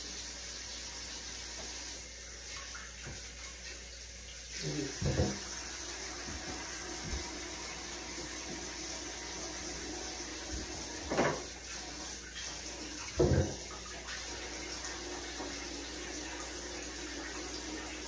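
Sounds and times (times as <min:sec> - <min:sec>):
tap water running into basin: 0:00.0 - 0:18.0.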